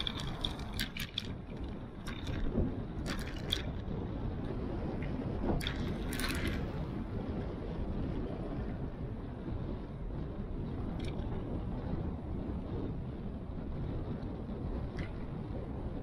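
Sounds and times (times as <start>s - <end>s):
tyres rumbling on asphalt: 0.0s - 16.0s
wind buffeting microphone: 0.0s - 16.0s.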